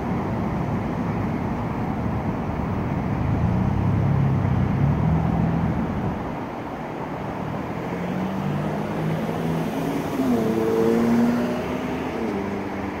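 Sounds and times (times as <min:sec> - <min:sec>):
background rushing noise: 0:00.0 - 0:13.0
passing vehicle engine: 0:02.0 - 0:13.0.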